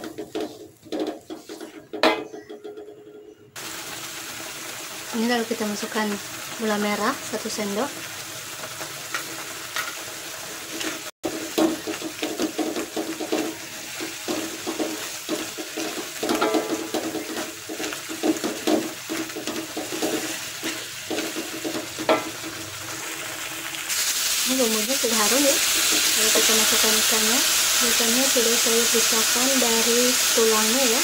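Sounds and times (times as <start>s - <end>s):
spatula scraping a wok: 0.0s - 3.2s, 8.0s - 30.5s
paste sizzling in hot oil: 3.6s - 31.0s.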